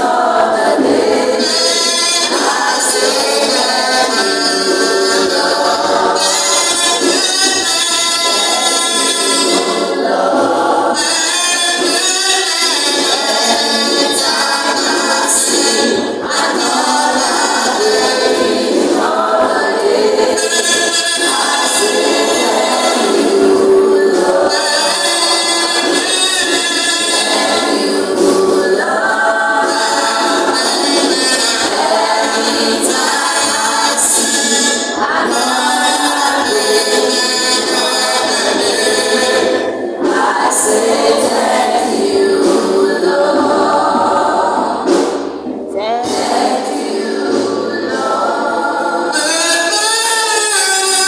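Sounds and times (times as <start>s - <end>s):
group singing a cappella: 0.0s - 51.0s.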